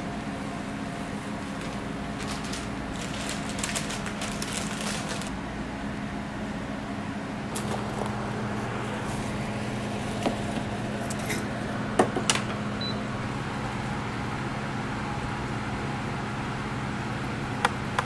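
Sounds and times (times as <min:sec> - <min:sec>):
kitchen equipment humming: 0:00.0 - 0:18.0.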